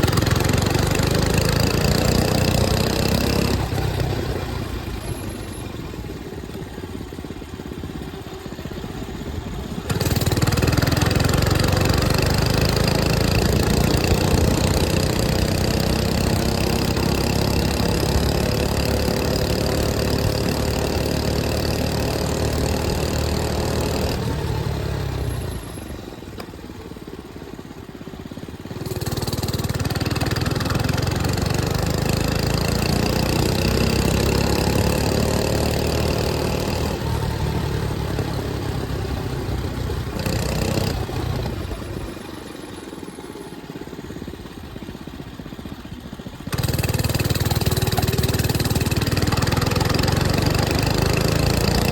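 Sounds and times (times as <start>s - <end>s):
mini bike engine running: 0.0s - 51.9s.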